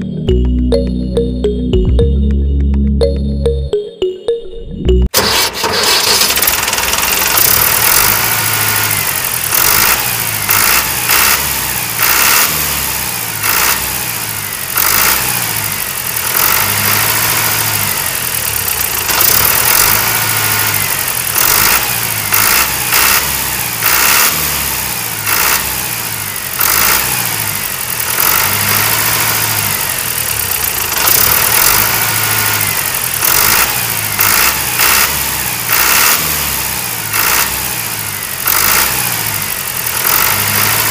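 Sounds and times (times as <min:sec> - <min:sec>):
tractor engine running: 0:00.0 - 0:03.8, 0:04.9 - 0:40.9.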